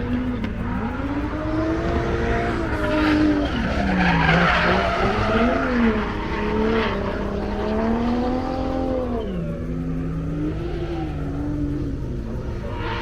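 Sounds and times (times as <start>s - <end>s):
car engine revving: 0.0s - 13.0s
tires squealing: 0.0s - 13.0s.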